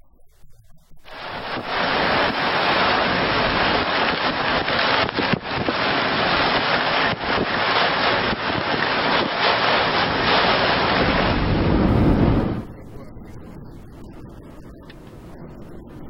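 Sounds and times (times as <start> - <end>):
rushing wind: 1.0 - 16.0
sea waves breaking: 1.0 - 16.0.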